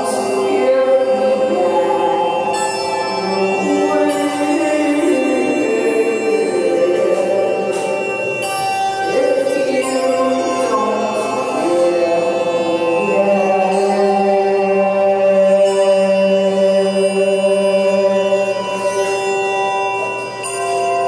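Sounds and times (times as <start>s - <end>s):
slow chant-like singing: 0.0s - 21.0s.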